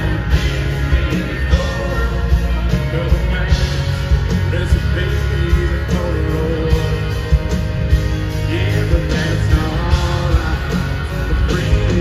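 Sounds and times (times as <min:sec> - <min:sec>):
bass: 0:00.0 - 0:12.0
drums: 0:00.0 - 0:12.0
electric guitars: 0:00.0 - 0:12.0
man singing lead vocal: 0:00.0 - 0:12.0.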